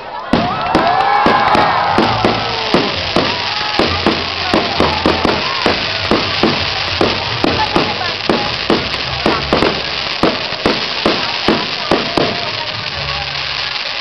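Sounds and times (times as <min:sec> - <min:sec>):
fireworks crackling hiss: 0:00.0 - 0:14.0
fireworks popping: 0:00.2 - 0:14.0.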